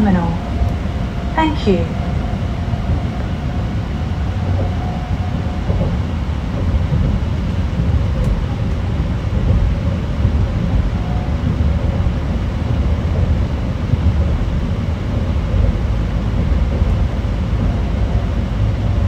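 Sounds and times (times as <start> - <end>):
train running low rumble: 0.0 - 19.0.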